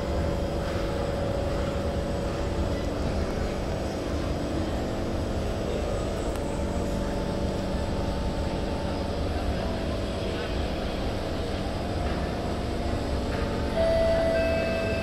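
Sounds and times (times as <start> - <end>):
faint whine: 0.0 - 15.0
stopped train hum: 0.0 - 15.0.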